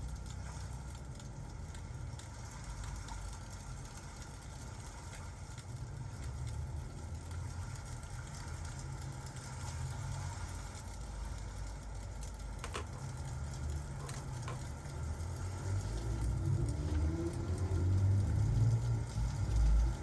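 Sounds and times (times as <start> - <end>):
fireplace crackling: 0.0 - 20.0
steady rain: 0.0 - 20.0.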